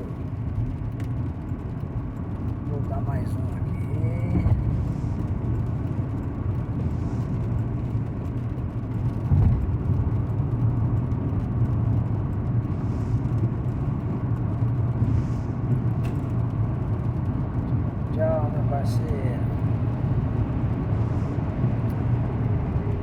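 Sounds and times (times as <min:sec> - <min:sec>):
diesel engine droning: 0:00.0 - 0:23.0
road and tyre noise: 0:00.0 - 0:23.0.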